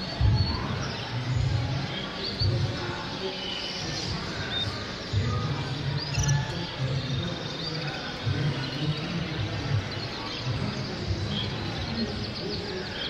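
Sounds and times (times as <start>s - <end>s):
murmur of voices: 0.0s - 13.0s
canaries chirping: 0.2s - 13.0s.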